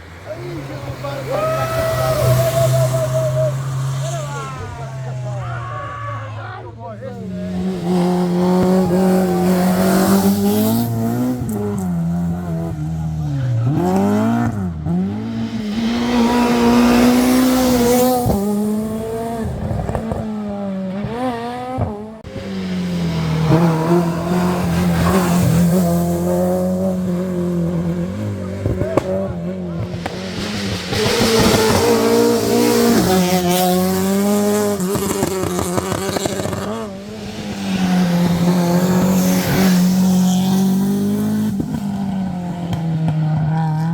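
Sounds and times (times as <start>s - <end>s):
rally car engine at high revs: 0.0s - 5.6s, 6.6s - 43.9s.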